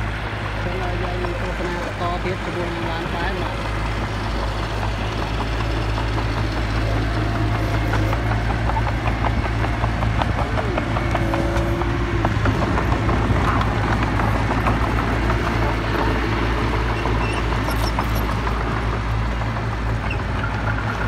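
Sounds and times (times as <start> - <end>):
diesel engine running: 0.0 - 21.0
steel tracks clattering: 0.0 - 21.0.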